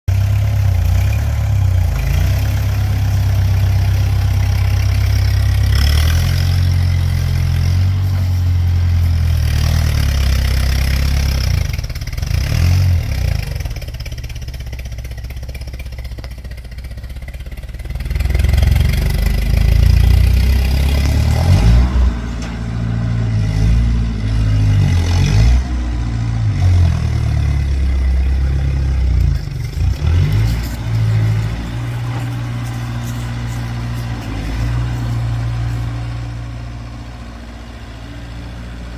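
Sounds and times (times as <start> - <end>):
tractor engine running: 0.1 - 38.9.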